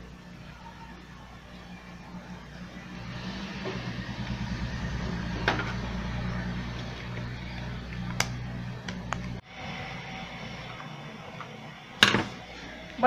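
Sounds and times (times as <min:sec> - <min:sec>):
engine idling: 0:01.4 - 0:12.0.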